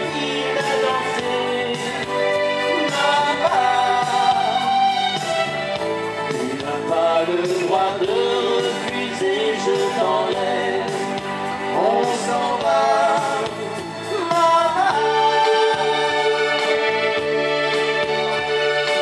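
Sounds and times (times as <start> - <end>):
person singing: 0.0 - 18.3
live band music: 0.0 - 19.0.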